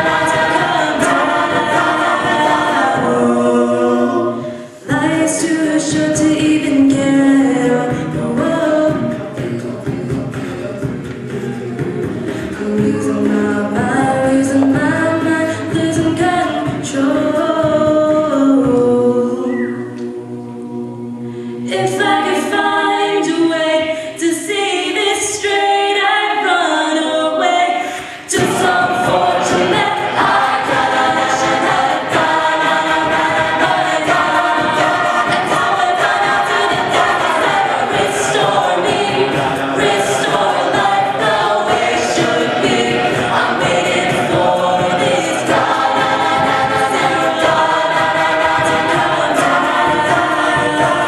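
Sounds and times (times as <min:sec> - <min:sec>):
a cappella group singing: 0:00.0 - 0:51.0.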